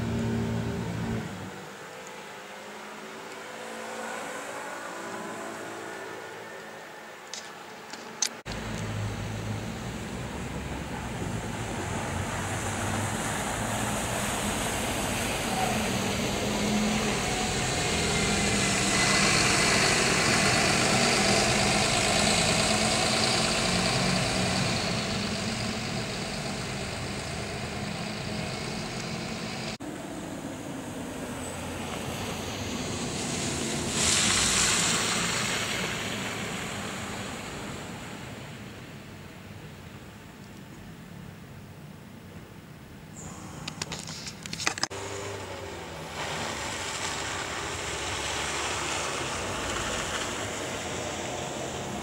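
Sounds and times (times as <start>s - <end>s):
vehicles passing on wet snow: 0.0s - 52.0s.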